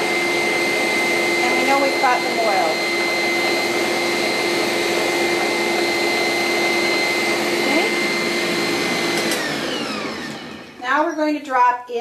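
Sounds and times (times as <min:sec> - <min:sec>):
mixer motor whining and whirring: 0:00.0 - 0:11.4.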